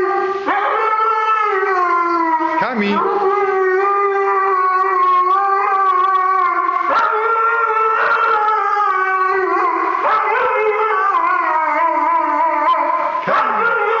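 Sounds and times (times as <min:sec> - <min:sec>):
dog howling: 0:00.0 - 0:14.0.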